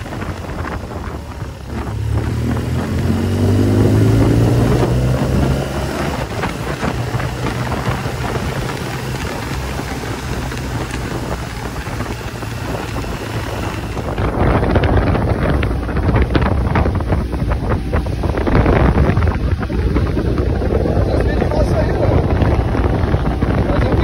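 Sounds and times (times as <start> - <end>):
motorboat engine rumble: 0.0 - 24.0
wind rushing over microphone: 0.0 - 24.0.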